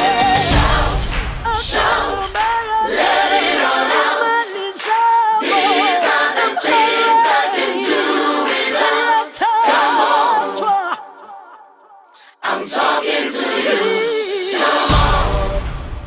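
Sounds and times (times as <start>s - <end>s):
gospel choir singing a cappella: 0.0s - 16.0s.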